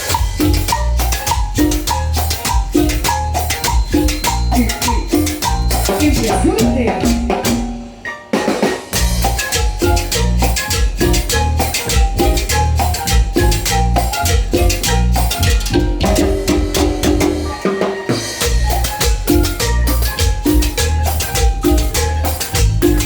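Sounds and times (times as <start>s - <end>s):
latin dance-band music: 0.0s - 23.0s.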